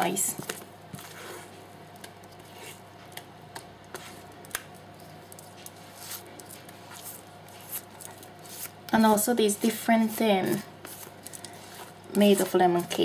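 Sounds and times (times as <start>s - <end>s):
cake batter squishing: 0.2s - 13.0s.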